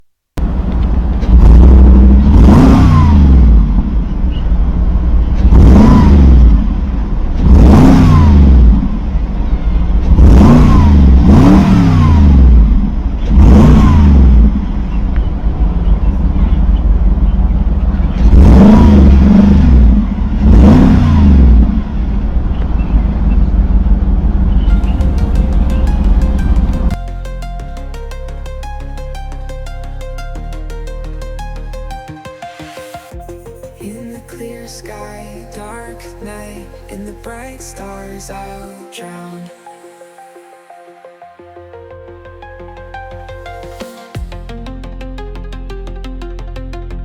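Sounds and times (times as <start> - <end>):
car engine idling and revving: 0.0 - 38.6.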